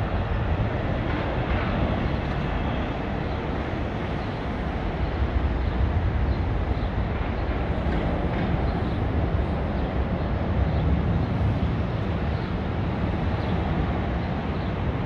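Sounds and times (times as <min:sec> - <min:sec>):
jet engines low rumble: 0:00.0 - 0:15.0.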